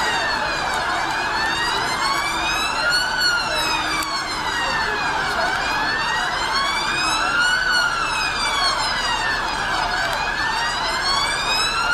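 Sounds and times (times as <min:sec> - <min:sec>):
police siren wailing: 0:00.0 - 0:11.9
street noise: 0:00.0 - 0:11.9.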